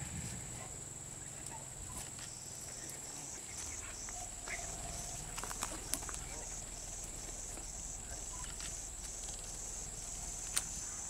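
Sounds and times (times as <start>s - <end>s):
insect high-pitched trill: 0.0s - 11.0s
pulsing insect call: 0.0s - 11.0s.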